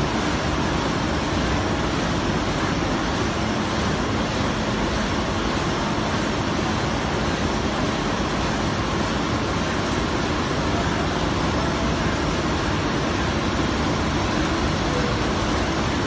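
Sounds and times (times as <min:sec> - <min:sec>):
laminating machine running: 0:00.0 - 0:16.0.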